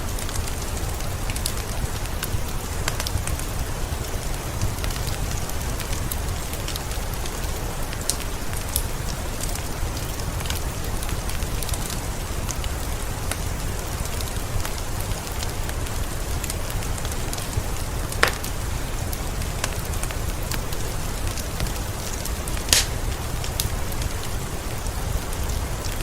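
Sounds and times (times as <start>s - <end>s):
heavy rain falling: 0.0s - 26.0s
raindrops dripping and splashing: 0.0s - 26.0s.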